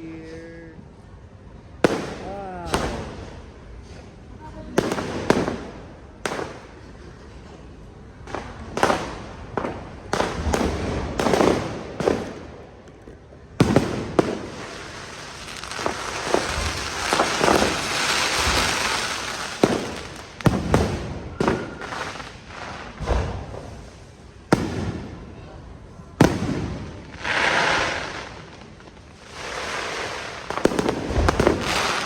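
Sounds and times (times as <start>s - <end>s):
fireworks banging: 1.8s - 32.0s.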